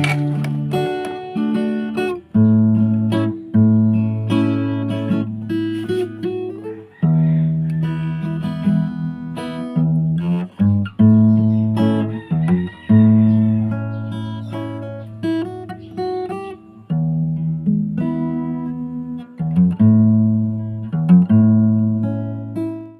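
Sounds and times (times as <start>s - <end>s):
acoustic guitar playing: 0.0s - 22.9s.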